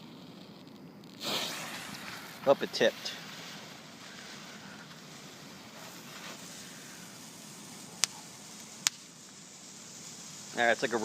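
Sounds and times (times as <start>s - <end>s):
firework fountain hissing: 0.0s - 11.0s
sharp crack: 0.0s - 11.0s.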